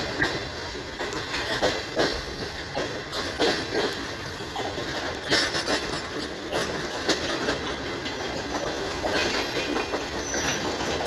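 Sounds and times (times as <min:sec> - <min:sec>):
train wheels rumbling on rail: 0:00.0 - 0:11.0
wheels clicking over rail joints: 0:00.0 - 0:11.0.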